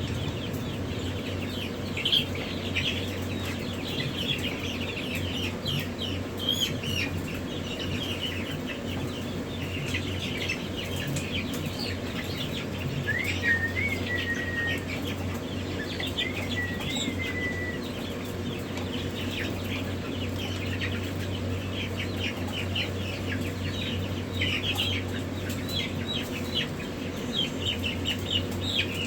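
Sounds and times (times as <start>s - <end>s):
chicks peeping: 0.0s - 29.0s
steady low hum: 0.0s - 29.0s.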